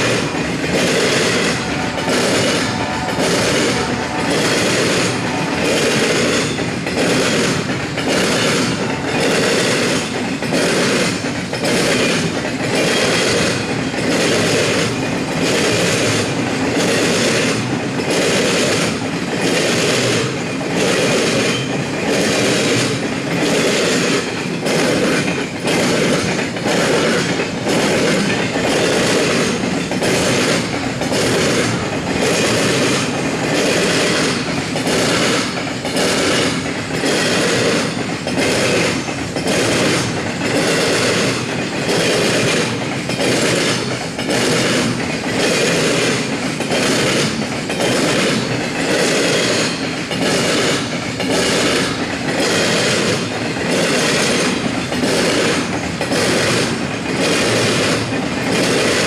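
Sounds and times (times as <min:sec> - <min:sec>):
rumble of wheels on rail: 0:00.0 - 0:59.0
wheels clacking over rail joints: 0:00.0 - 0:59.0.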